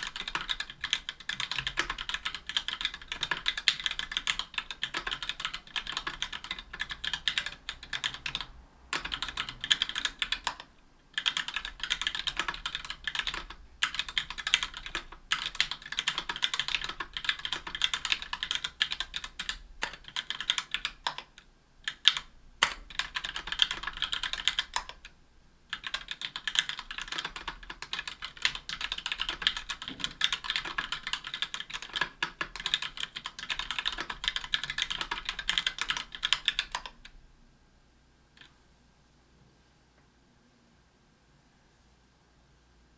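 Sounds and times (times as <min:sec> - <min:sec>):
fast mechanical keyboard typing: 0:00.0 - 0:21.3, 0:21.9 - 0:25.1, 0:25.7 - 0:37.1.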